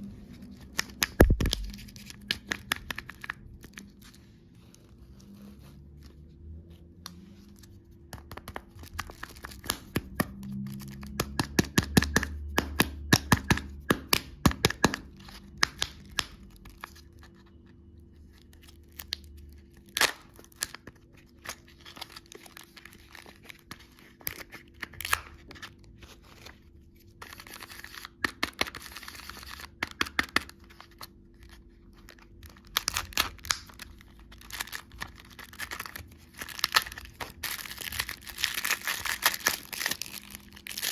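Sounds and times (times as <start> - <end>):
candy packaging crinkling: 0.1 - 5.7, 7.3 - 12.4, 13.0 - 40.9.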